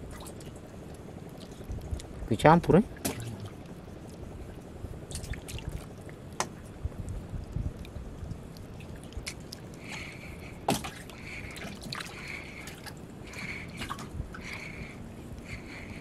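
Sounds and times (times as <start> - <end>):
water sloshing around boat: 0.0 - 16.0.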